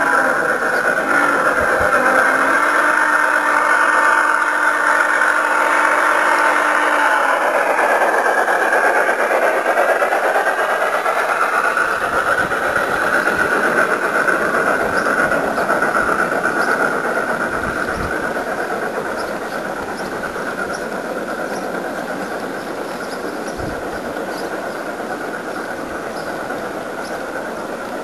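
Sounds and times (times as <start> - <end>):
wind buffeting microphone: 0.0 - 3.4, 7.4 - 28.0
model train wheels rolling on rail: 0.0 - 28.0.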